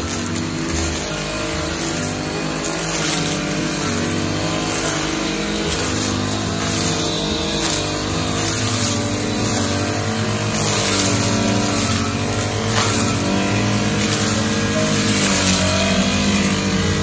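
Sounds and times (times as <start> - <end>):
grass cutter engine running: 0.0 - 17.0.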